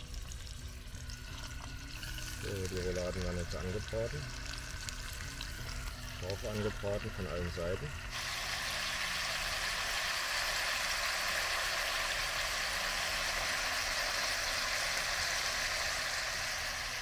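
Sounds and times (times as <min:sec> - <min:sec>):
meat sizzling in butter: 0:00.0 - 0:17.0.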